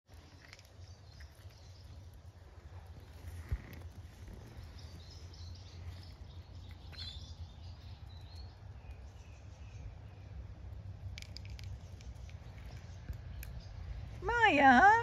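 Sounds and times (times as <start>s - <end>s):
birds chirping: 0.1s - 15.0s
low outdoor rumble: 0.1s - 15.0s.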